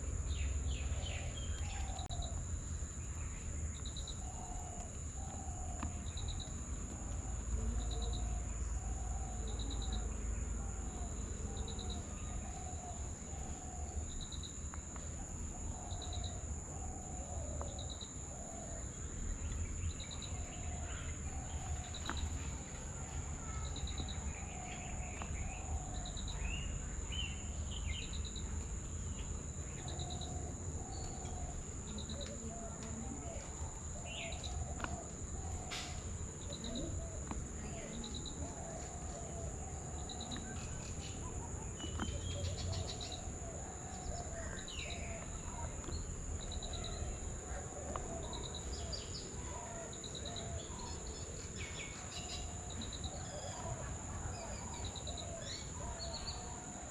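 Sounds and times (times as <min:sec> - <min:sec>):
high insect drone: 0:00.0 - 0:56.9.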